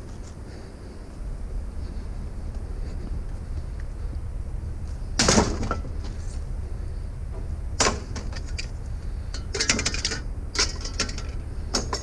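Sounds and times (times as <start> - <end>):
engine low rumble: 0.0 - 12.0.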